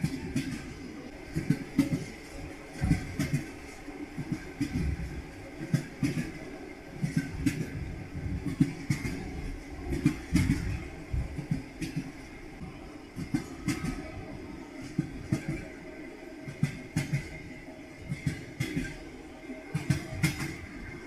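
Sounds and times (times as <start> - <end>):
moving train rumble: 0.0 - 21.0.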